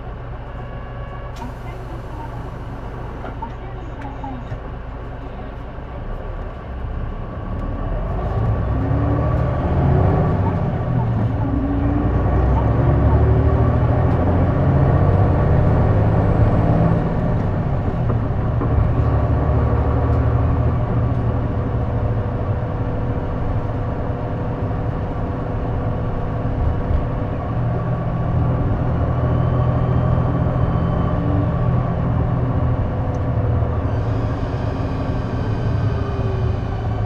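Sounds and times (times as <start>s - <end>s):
bus engine drone: 0.0s - 37.0s.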